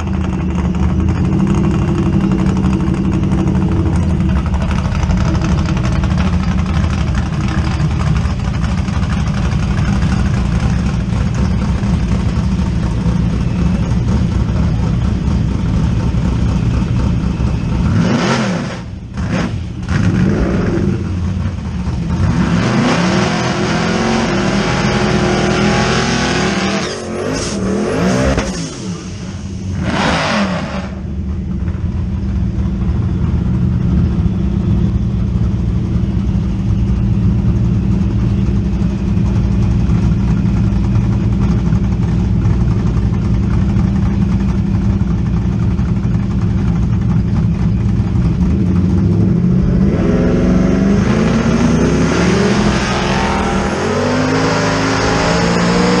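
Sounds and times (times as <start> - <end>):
car engine idling: 0.0 - 18.1, 18.8 - 22.4, 30.9 - 56.0
car engine revving: 0.0 - 31.6, 34.1 - 56.0.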